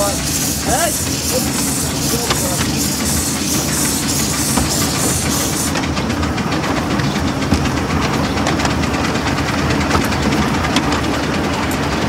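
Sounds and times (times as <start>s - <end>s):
steam locomotive puffing: 0.0s - 12.0s
train wheels rumbling and clicking: 0.0s - 12.0s.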